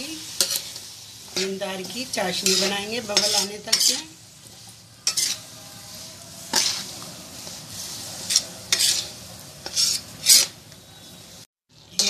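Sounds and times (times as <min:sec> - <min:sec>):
spatula scraping a pan: 0:00.0 - 0:10.6
faint steady sizzle: 0:00.0 - 0:12.0.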